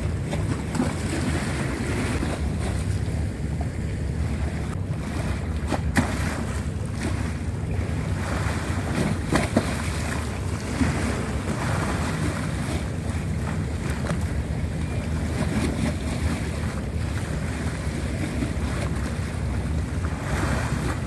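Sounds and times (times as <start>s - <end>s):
sea waves washing at shore: 0.0s - 21.0s.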